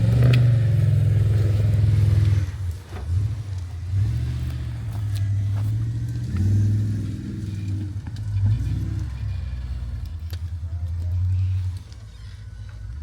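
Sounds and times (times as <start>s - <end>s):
vehicle engine revving: 0.0s - 11.9s.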